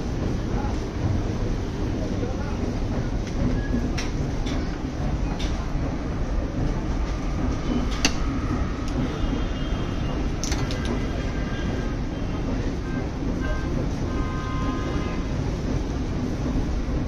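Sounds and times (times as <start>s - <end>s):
low rumble of background noise: 0.0s - 17.0s.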